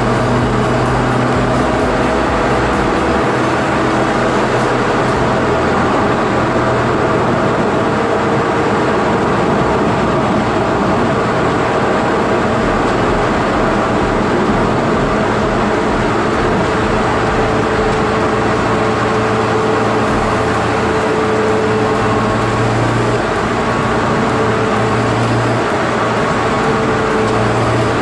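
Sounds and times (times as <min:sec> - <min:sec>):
car engine cruising: 0:00.0 - 0:28.0
road noise: 0:00.0 - 0:28.0.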